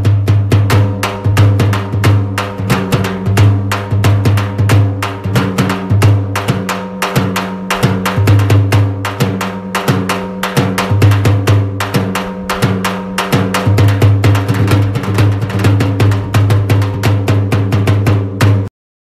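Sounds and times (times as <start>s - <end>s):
drum strikes: 0.0s - 18.7s.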